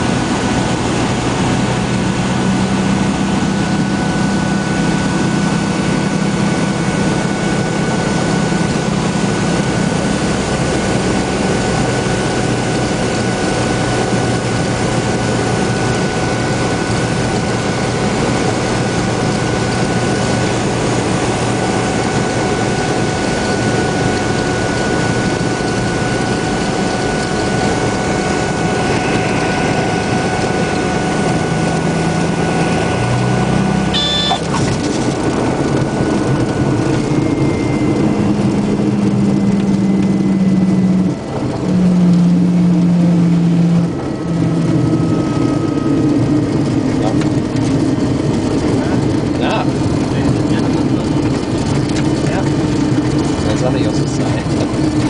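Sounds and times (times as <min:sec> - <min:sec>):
airplane engine cabin drone: 0:00.0 - 0:55.0
low hums: 0:00.0 - 0:55.0.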